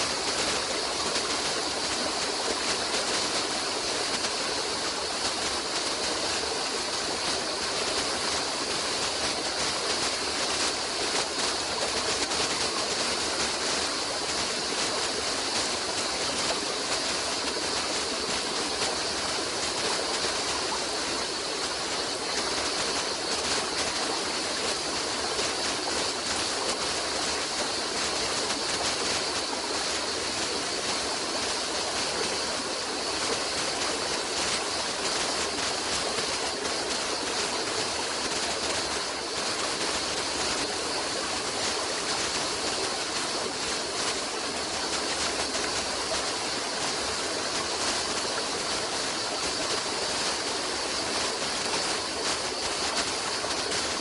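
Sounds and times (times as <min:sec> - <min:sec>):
stream of running water: 0:00.0 - 0:54.0.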